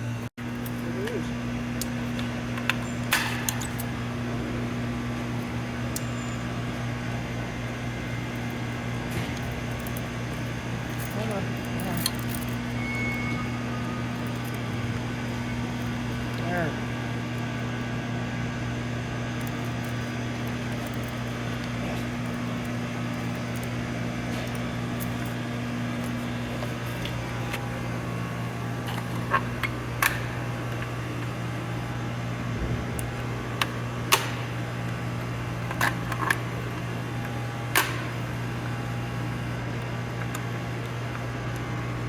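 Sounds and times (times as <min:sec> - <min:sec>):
low fan-like mechanical hum: 0:00.0 - 0:42.0.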